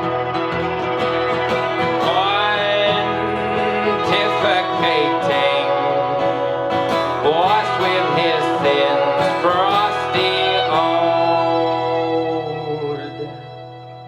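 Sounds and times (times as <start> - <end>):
acoustic country band playing: 0.0 - 14.0
plucked strings sliding notes: 0.0 - 14.0.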